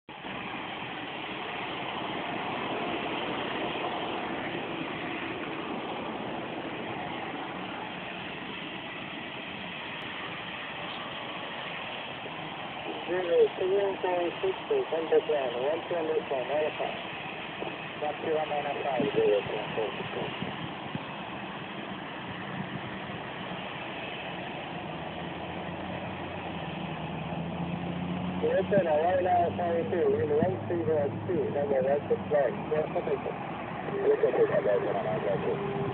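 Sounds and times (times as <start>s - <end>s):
jet engines running: 0.1s - 35.9s.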